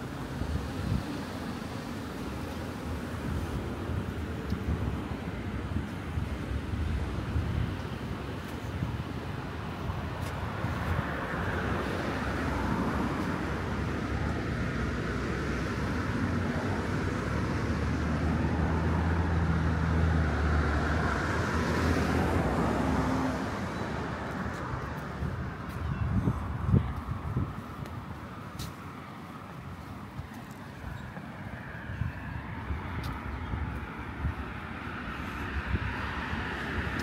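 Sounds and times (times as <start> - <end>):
traffic passing: 0.0 - 37.0.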